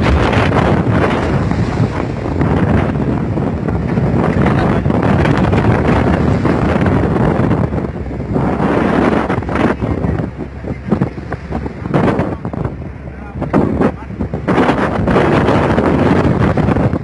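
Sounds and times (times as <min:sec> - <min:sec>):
rough sea rushing: 0:00.0 - 0:17.0
wind buffeting microphone: 0:00.0 - 0:17.0.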